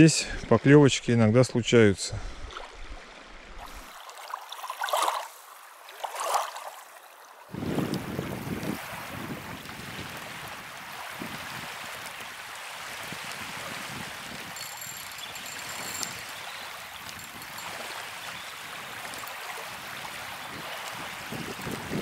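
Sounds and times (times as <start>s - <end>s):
small waves washing on shore: 2.2s - 22.0s.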